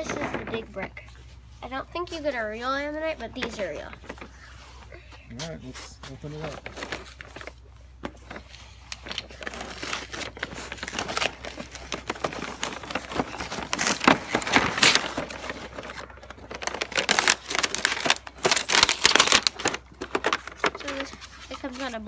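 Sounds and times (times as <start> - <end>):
plastic film and cardboard crinkling: 2.0 - 4.8, 5.4 - 22.0.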